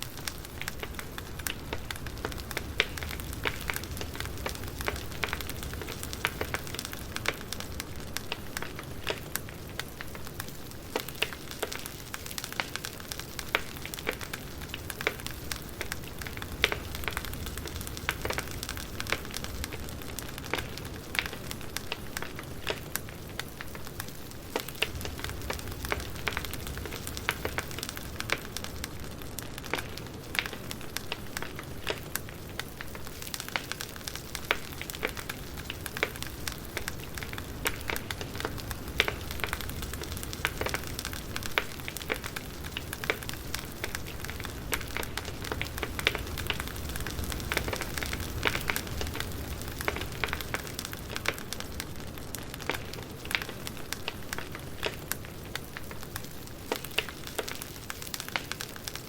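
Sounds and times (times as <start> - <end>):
fire pops and snaps: 0.0 - 59.0
hiss of burning fire: 0.0 - 59.0.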